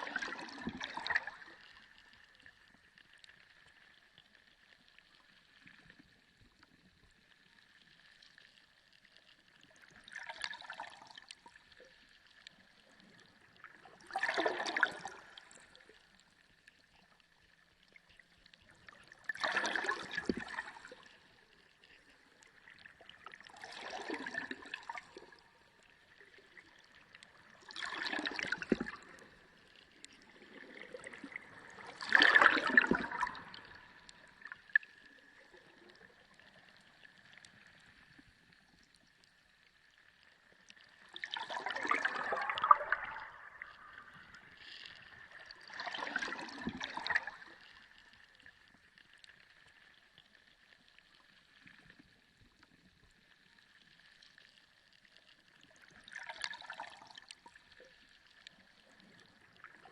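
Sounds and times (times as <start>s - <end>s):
water surging underwater: 0.0s - 59.9s.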